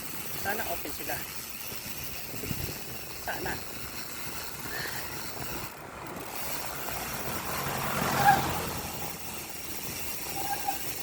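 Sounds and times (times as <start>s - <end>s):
vehicle passing on road: 1.6s - 11.0s.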